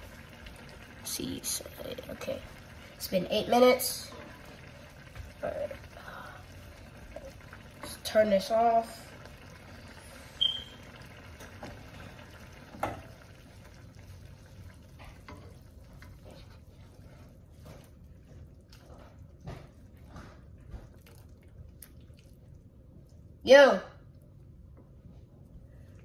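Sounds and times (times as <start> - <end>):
spoon stirring pasta in a pot: 0.0 - 23.4.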